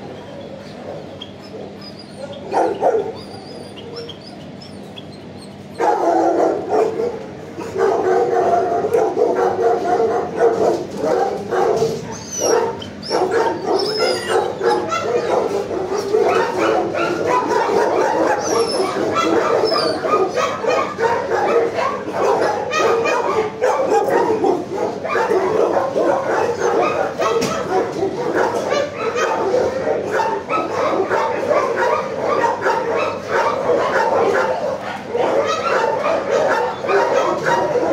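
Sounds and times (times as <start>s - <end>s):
dogs barking and yipping: 0.0s - 37.9s
dogs whining: 0.0s - 37.9s.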